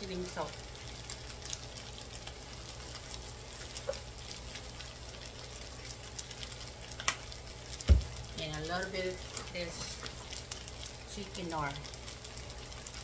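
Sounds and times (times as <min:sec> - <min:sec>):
rice sizzling in a skillet: 0:00.0 - 0:13.0.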